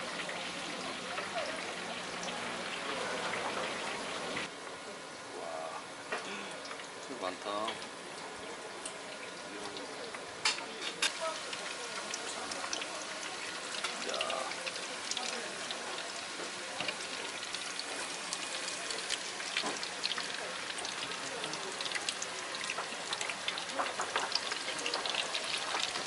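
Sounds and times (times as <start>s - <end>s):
food deep-frying in oil: 0.0s - 26.0s.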